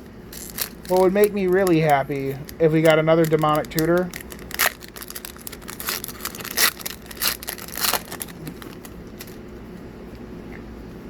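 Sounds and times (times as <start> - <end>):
steady low hum: 0.0 - 11.0
foil wrapper crinkling and tearing: 0.2 - 9.4.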